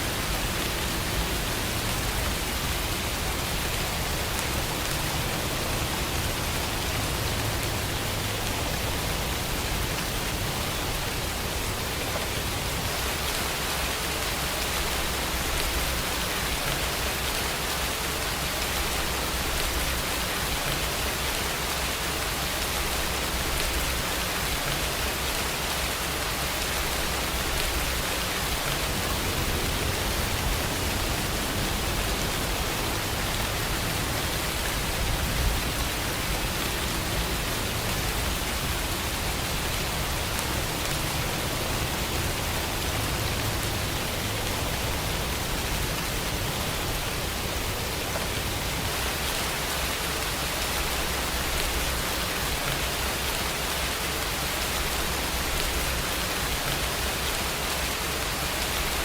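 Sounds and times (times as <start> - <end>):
dense rainfall hiss: 0.0 - 59.0.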